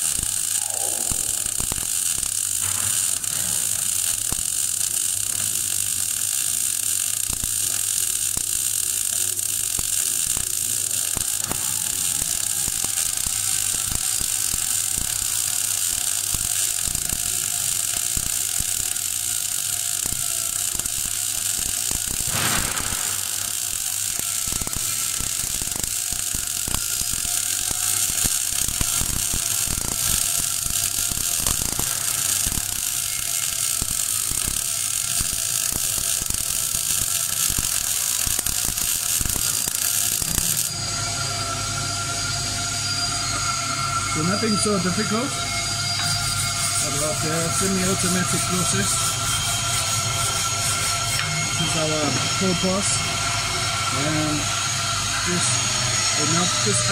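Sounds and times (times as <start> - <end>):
welding arc crackling: 0.0 - 41.5, 42.1 - 56.9.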